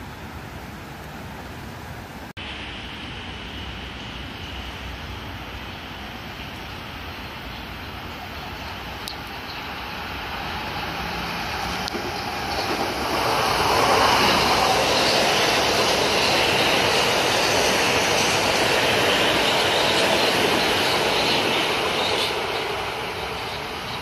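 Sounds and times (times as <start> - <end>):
electric train passing on wet track: 0.0 - 24.0.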